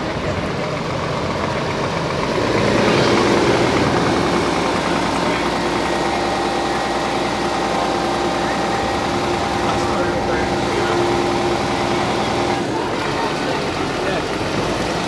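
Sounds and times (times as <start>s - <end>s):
heavy vehicle engine running: 0.0s - 15.0s.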